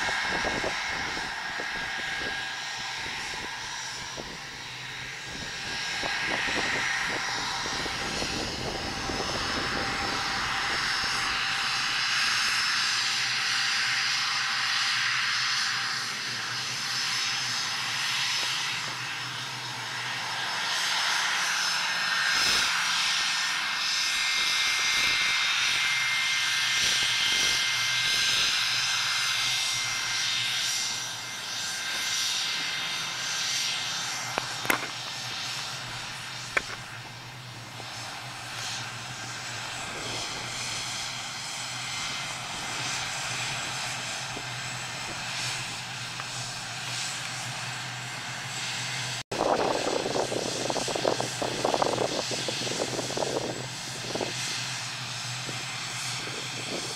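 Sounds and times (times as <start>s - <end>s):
jet engines taxiing: 0.0s - 56.9s.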